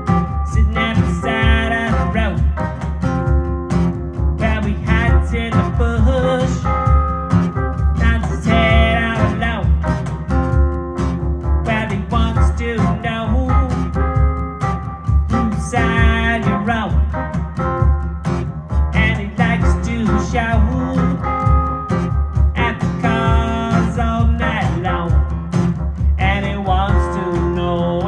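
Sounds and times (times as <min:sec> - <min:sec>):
guitar music with bass and beat: 0:00.0 - 0:28.0.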